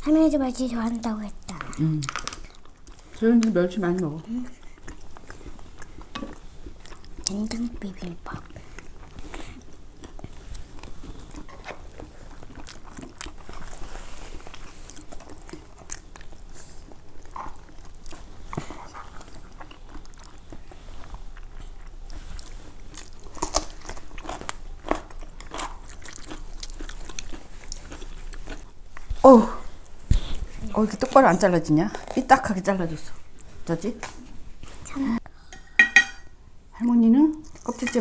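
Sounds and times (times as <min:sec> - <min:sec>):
chewing and crunching food: 0:00.0 - 0:35.2, 0:37.3 - 0:38.0.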